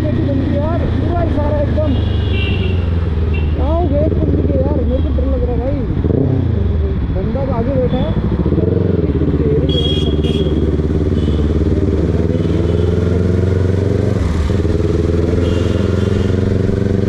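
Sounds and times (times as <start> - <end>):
motorcycle engine at low revs: 2.9 - 17.0.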